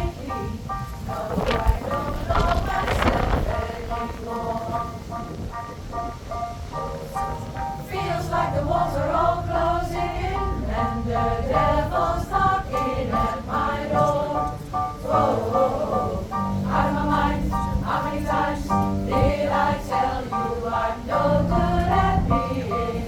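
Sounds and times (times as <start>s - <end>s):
choir singing in harmony: 0.0s - 23.0s
musical accompaniment with bass: 0.0s - 23.0s.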